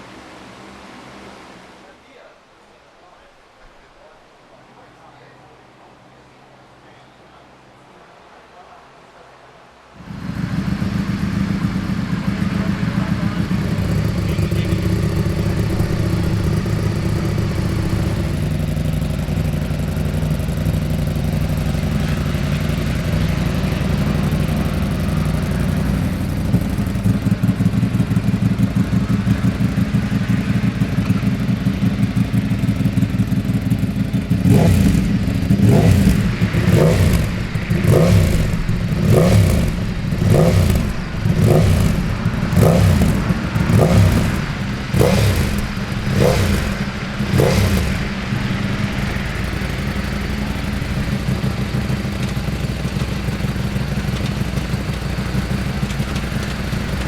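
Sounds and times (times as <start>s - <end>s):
motorcycle engine idling: 10.0s - 57.0s
motorcycle throttle blips: 10.0s - 57.0s.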